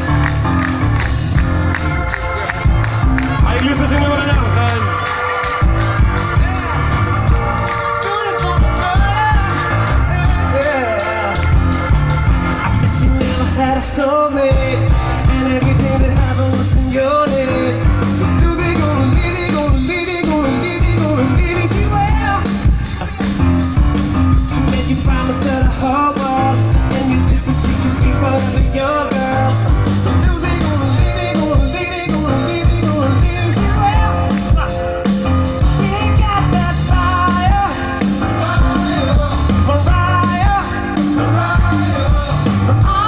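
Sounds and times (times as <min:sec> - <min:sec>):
drum beat: 0:00.0 - 0:13.6, 0:14.5 - 0:43.0
live pop-rock band: 0:00.0 - 0:43.0.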